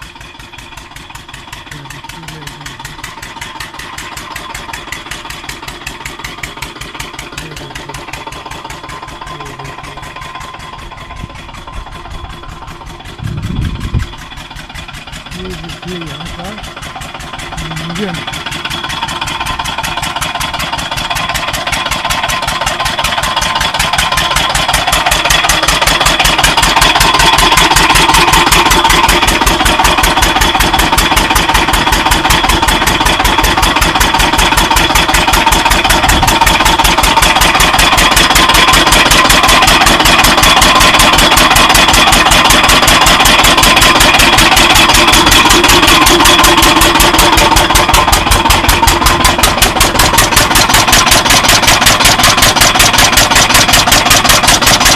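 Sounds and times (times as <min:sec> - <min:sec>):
farm engine running: 0:00.0 - 0:54.9.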